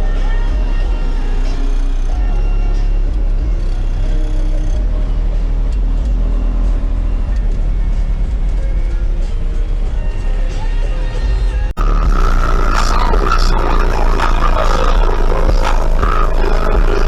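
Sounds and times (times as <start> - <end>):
rap music with heavy bass: 0.0 - 17.0.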